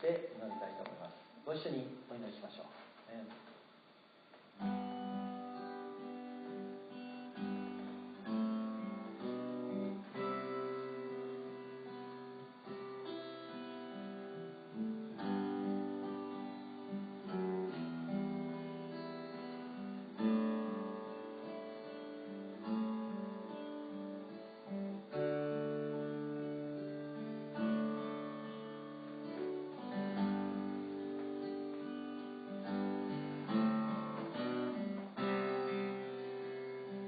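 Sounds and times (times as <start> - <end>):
acoustic guitar soft chords: 0.0 - 37.0.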